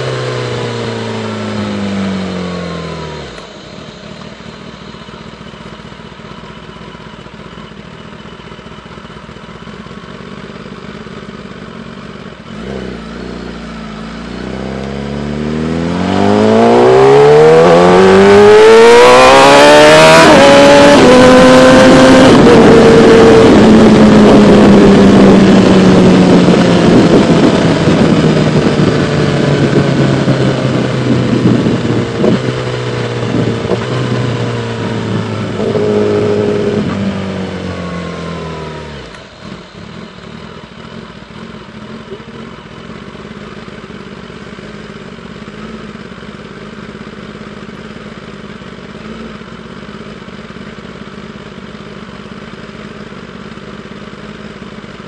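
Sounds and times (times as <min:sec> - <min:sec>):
motorcycle engine winding down: 0:00.0 - 0:55.0
motorcycle engine idling: 0:00.6 - 0:18.2, 0:21.7 - 0:55.0.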